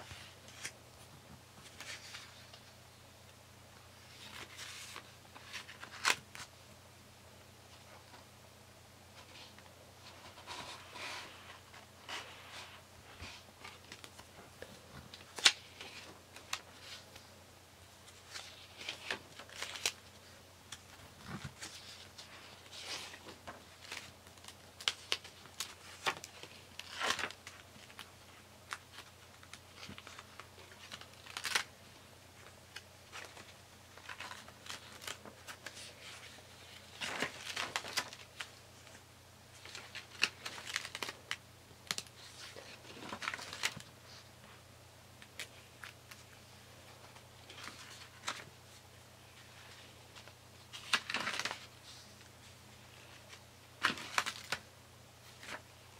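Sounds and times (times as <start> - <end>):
paper pages turning: 0.0 - 2.8, 4.0 - 6.5, 9.2 - 17.2, 18.0 - 31.7, 32.4 - 44.2, 47.0 - 48.5, 49.4 - 52.3, 52.9 - 54.6, 55.2 - 55.6.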